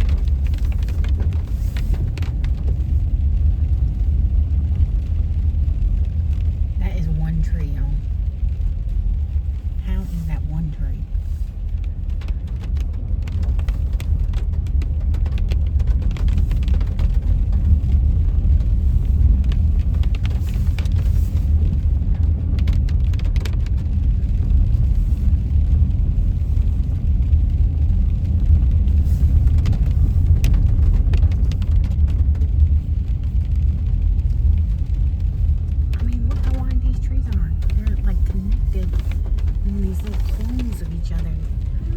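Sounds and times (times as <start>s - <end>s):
car road noise on wet road: 0.0s - 41.9s.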